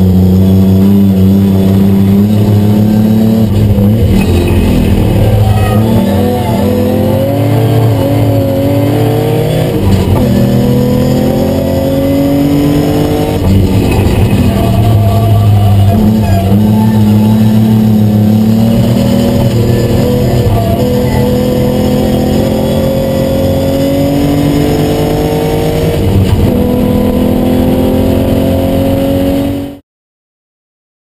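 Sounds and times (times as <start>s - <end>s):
car engine under load: 0.0s - 29.7s.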